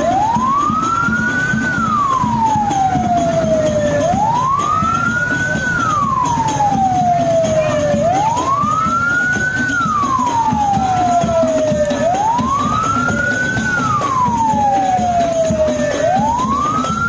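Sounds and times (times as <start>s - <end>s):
electronic siren wailing: 0.0s - 17.0s.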